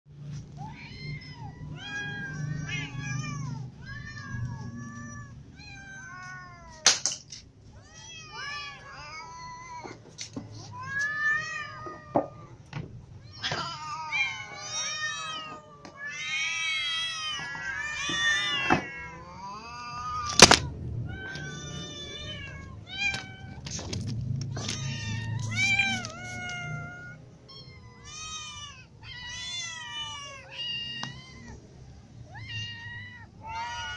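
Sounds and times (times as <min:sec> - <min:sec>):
cats and kittens meowing: 0:00.2 - 0:33.9.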